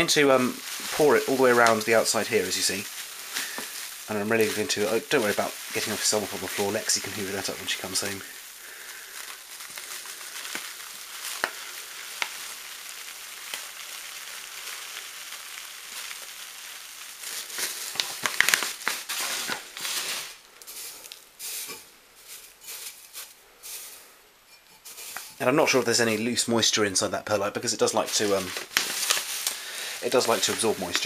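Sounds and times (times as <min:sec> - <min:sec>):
small clicks of grains landing: 0:00.0 - 0:24.1, 0:27.9 - 0:31.0
granules pouring with hiss: 0:00.0 - 0:31.0.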